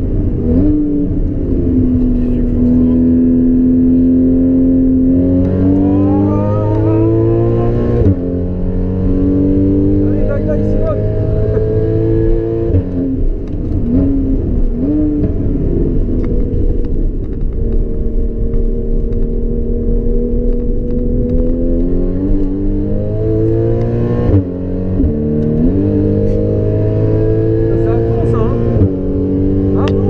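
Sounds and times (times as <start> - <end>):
car engine revving from inside: 0.3 - 17.0, 18.0 - 30.0.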